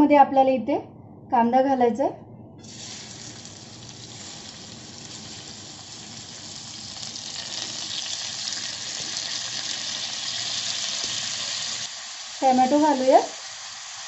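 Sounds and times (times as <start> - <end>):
onions sizzling in hot oil: 2.6 - 14.0.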